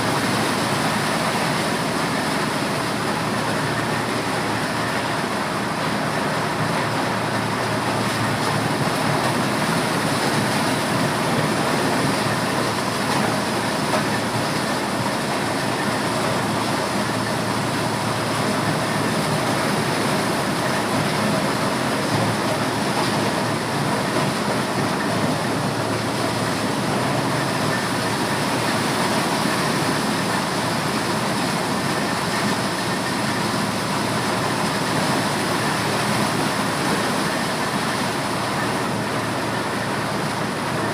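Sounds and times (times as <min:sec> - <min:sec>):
corn sheller running: 0:00.0 - 0:40.9.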